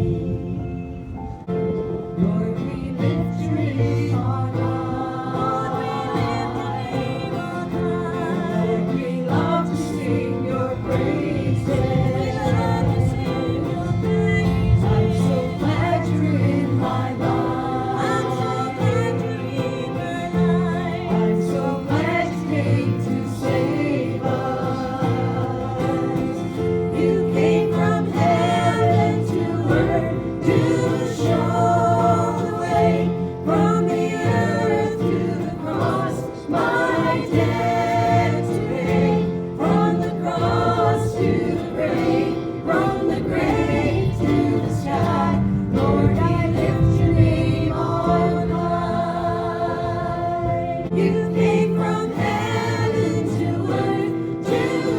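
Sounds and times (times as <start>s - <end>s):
choir singing a hymn: 0.0s - 54.9s
instrumental accompaniment: 0.0s - 54.9s.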